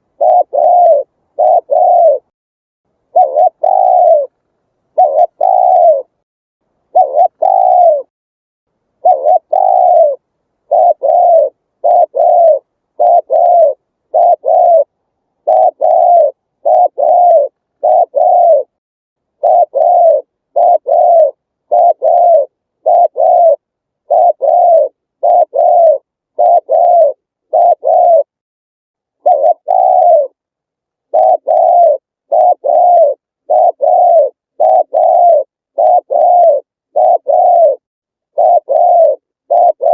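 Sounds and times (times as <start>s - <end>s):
dove cooing: 0.0s - 2.3s, 3.0s - 6.2s, 6.9s - 8.1s, 9.0s - 18.8s, 19.4s - 28.4s, 29.2s - 30.4s, 31.1s - 39.9s.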